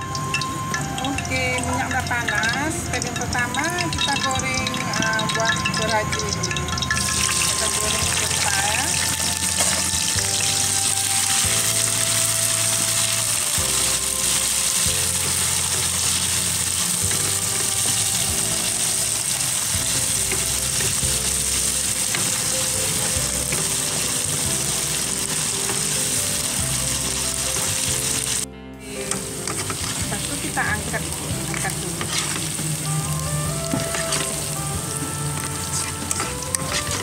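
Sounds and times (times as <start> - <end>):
background music: 0.0 - 37.0
oil sizzling in a wok: 0.0 - 37.0.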